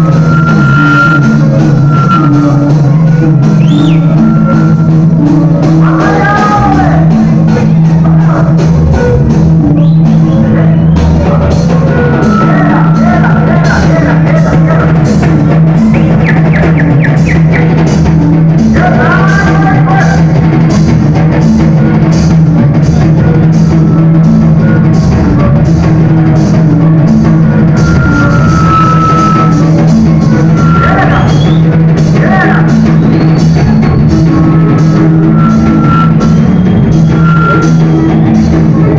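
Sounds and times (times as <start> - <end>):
loud band music: 0.0 - 38.9.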